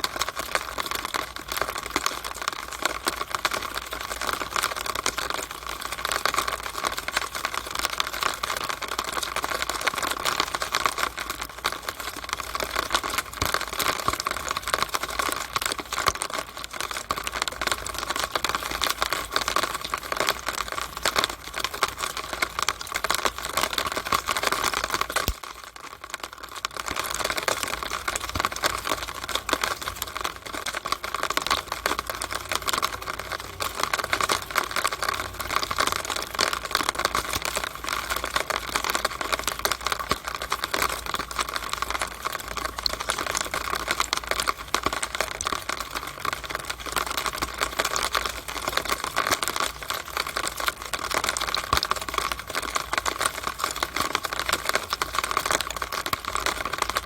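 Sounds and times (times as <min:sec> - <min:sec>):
rainwater running down a downspout: 0:00.0 - 0:57.0.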